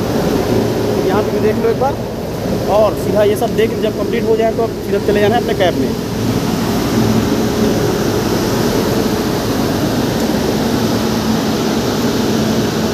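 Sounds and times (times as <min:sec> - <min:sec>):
locomotive cooling blowers running: 0:00.0 - 0:12.9.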